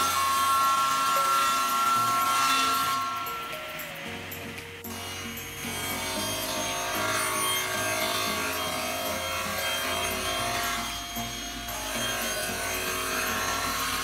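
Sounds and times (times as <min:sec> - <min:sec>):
panel saw cutting board: 0:00.0 - 0:14.0
saw blades whining: 0:00.0 - 0:14.0.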